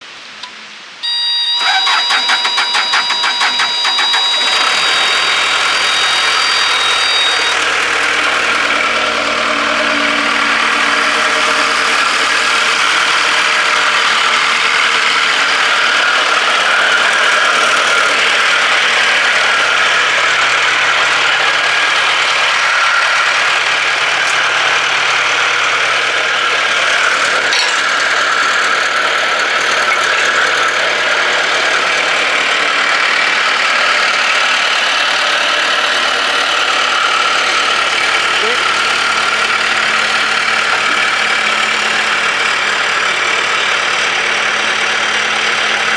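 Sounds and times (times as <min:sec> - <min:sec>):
loader engine running: 0:00.0 - 0:45.9.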